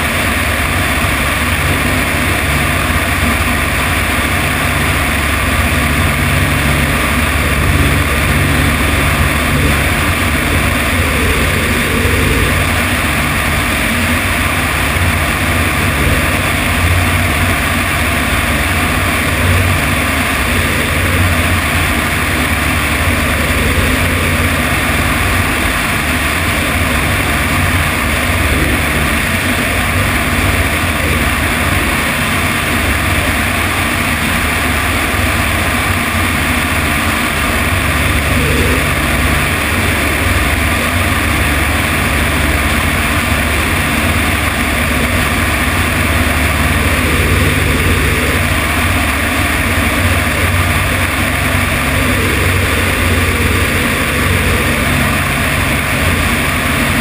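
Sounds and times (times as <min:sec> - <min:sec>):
light aircraft engine and propeller: 0:00.0 - 0:57.0
wind rushing over microphone: 0:00.0 - 0:57.0.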